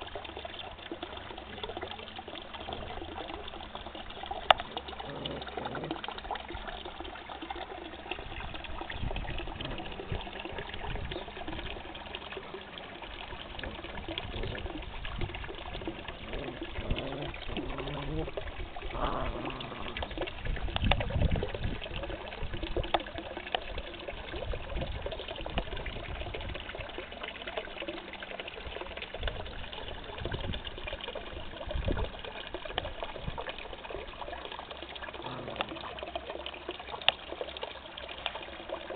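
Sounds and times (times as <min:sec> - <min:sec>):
trickle of running water: 0:00.0 - 0:38.9.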